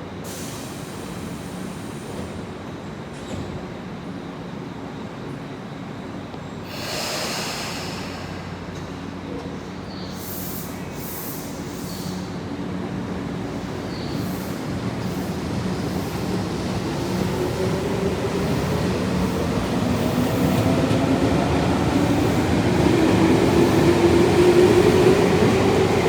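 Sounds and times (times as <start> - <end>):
train air hiss: 0.2 - 2.6, 6.6 - 9.2, 9.8 - 26.0.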